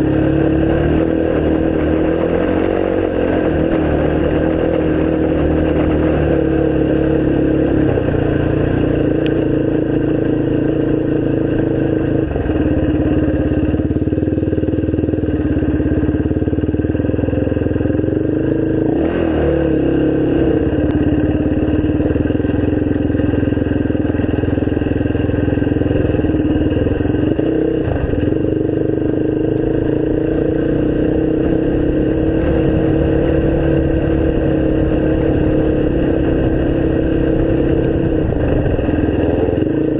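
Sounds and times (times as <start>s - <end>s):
off-road motorcycle engine running: 0.0s - 39.9s.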